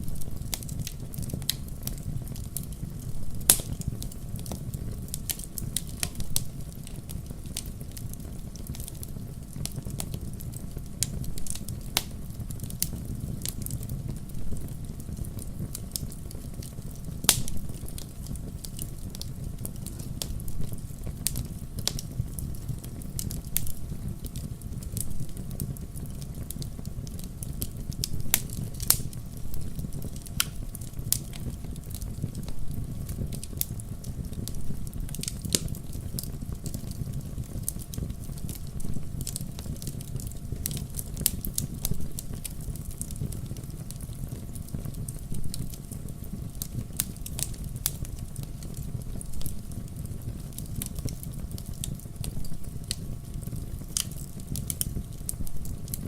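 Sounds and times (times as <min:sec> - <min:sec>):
firewood crackling and popping: 0:00.0 - 0:56.0
low rumble of flames: 0:00.0 - 0:56.0.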